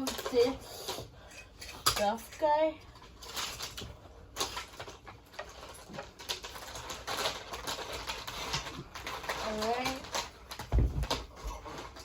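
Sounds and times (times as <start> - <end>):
toy train track pieces clattering: 0.0 - 1.0, 1.6 - 12.0.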